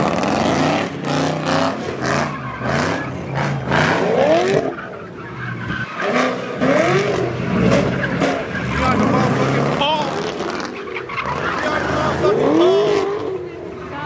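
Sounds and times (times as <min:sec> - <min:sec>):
car engine revving hard: 0:00.0 - 0:04.8, 0:05.7 - 0:13.7
tires skidding: 0:00.0 - 0:14.0.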